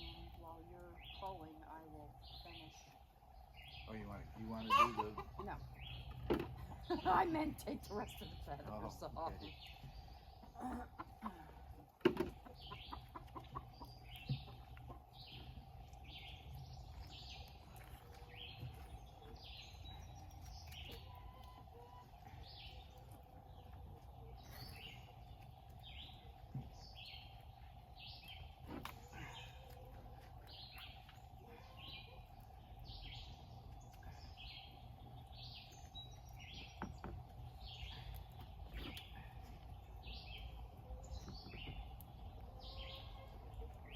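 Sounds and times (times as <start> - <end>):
birds chirping: 0.0 - 43.9
faint steady hum: 0.0 - 43.9.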